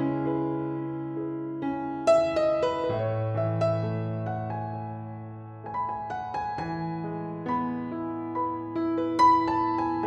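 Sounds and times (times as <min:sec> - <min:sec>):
gentle keyboard melody: 0:00.0 - 0:10.0.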